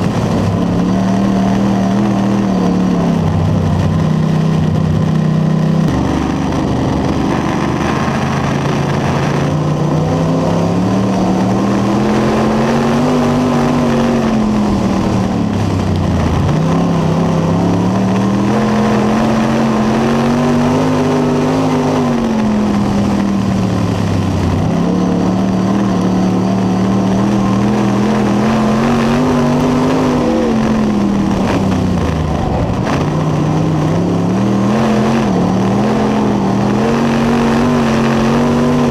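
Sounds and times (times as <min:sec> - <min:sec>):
race car engine at speed: 0:00.0 - 0:38.9.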